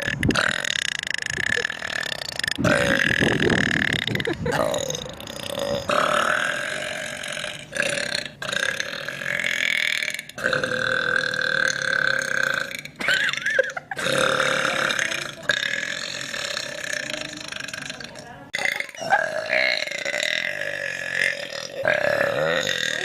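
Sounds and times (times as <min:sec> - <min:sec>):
woman burping: 0:00.0 - 0:23.0.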